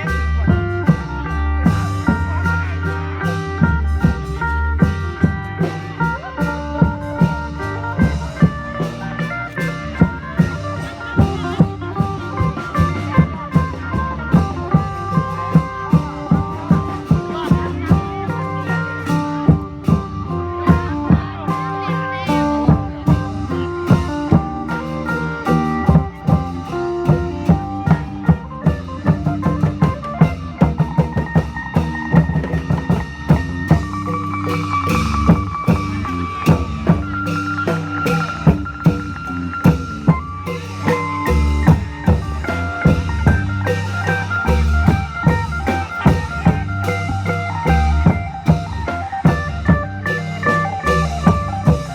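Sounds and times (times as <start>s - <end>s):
long drums and percussion beat: 0.0s - 51.9s.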